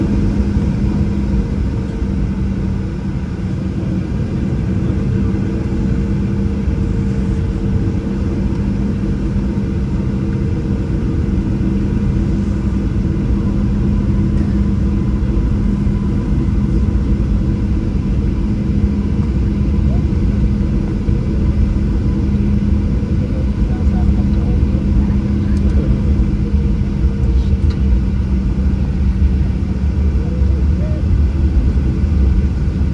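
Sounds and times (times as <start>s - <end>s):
airplane cabin engine hum: 0.0s - 32.9s.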